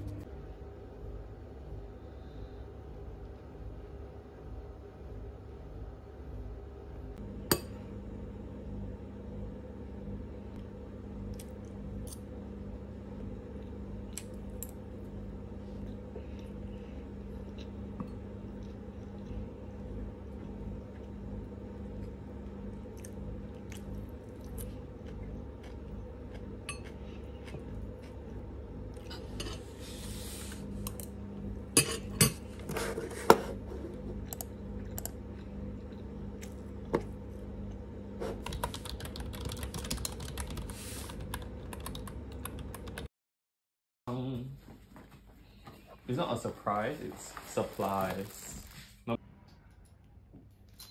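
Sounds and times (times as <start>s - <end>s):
steady low hum: 0.0s - 43.1s.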